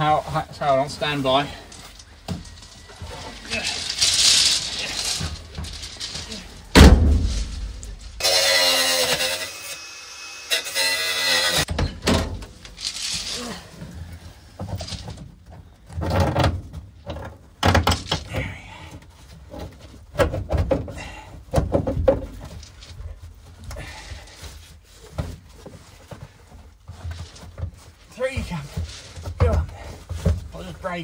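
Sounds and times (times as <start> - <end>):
metal clunks and scraping: 0.0 - 9.6, 11.5 - 30.8.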